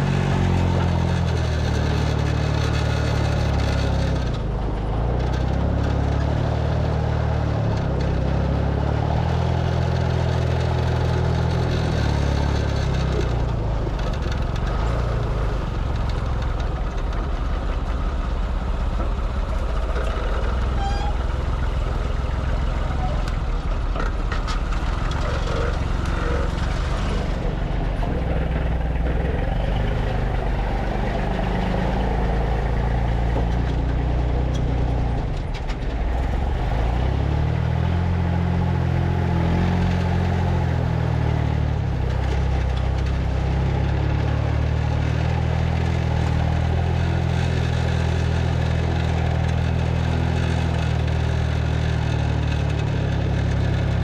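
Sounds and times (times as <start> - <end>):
road noise: 0.0 - 54.0
truck engine running: 0.0 - 54.0.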